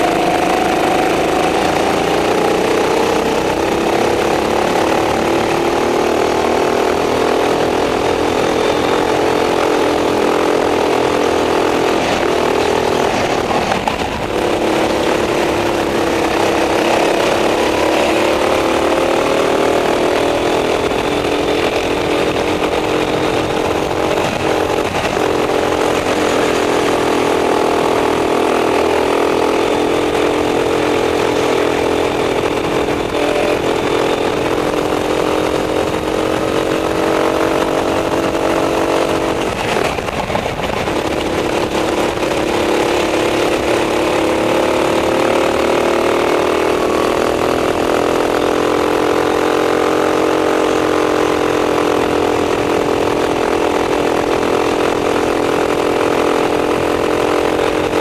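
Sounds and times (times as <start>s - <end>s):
racing kart engine: 0.0s - 58.0s.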